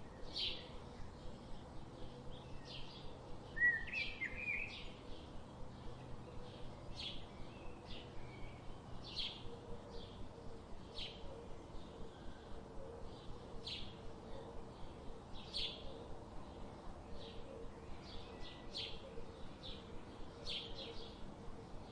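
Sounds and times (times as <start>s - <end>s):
birds chirping: 0.0s - 21.9s
steady background hiss: 0.0s - 21.9s.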